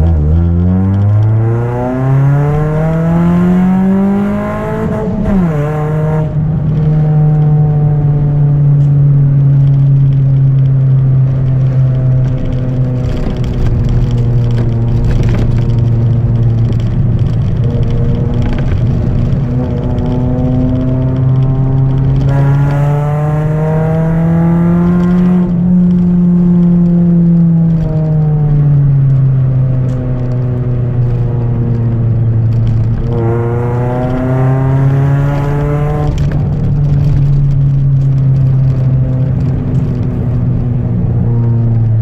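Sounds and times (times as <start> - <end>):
loud car engine accelerating: 0.0 - 42.0.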